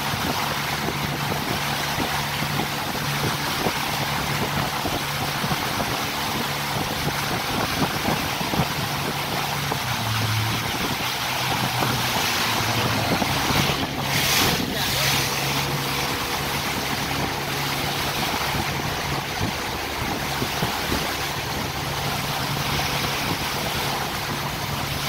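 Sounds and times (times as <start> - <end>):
rush of wind and water: 0.0 - 25.0
speedboat engine humming: 0.0 - 25.0.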